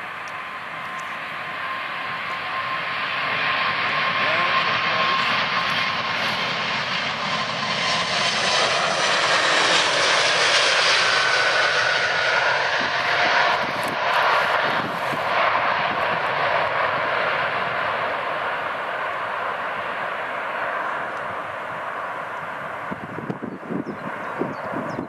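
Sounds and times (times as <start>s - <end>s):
airplane engines passing: 0.0s - 25.0s.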